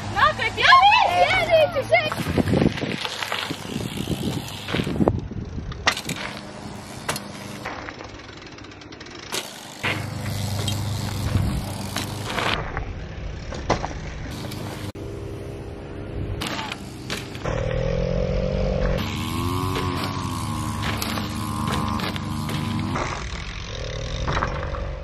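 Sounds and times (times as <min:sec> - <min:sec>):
bike tyres on gravel: 0:00.0 - 0:15.0, 0:16.4 - 0:17.9, 0:18.9 - 0:25.0
bikes clicking and knocking: 0:00.0 - 0:15.0, 0:16.3 - 0:25.0.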